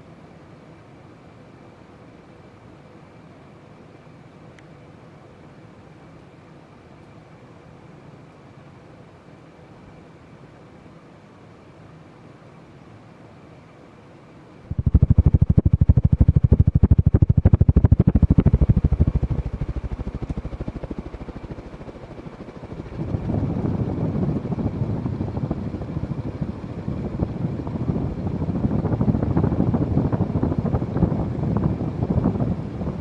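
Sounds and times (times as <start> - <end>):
ceiling fan blades pulsing: 0.0 - 33.0.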